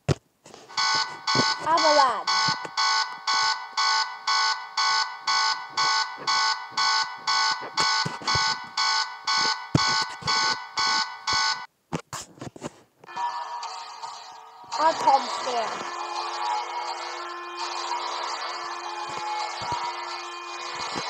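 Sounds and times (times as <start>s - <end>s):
loud repeating alarm beep: 0.7s - 11.7s, 13.1s - 21.0s.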